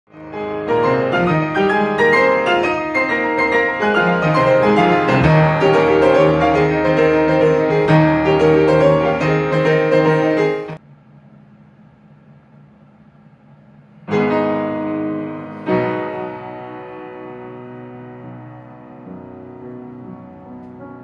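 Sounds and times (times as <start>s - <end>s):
solo piano music: 0.1s - 10.8s, 14.0s - 21.0s.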